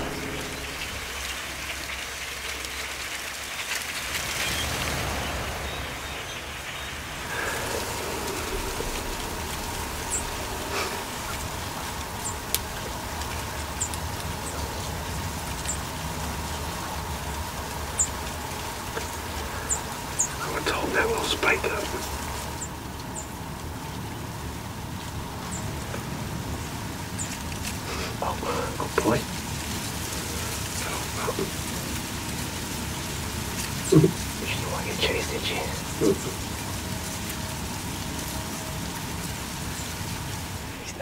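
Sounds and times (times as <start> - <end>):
flock of birds chattering: 0.0 - 41.0
outdoor hiss: 0.0 - 41.0
wingbeats: 0.0 - 41.0.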